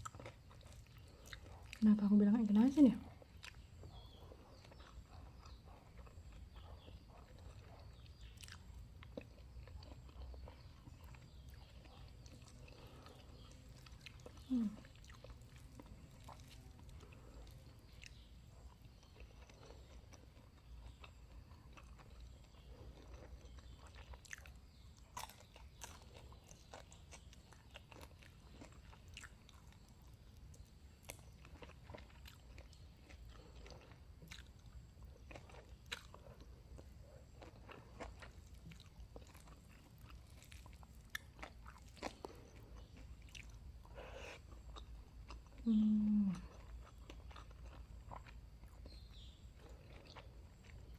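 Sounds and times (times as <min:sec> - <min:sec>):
close chewing: 0:00.0 - 0:50.9.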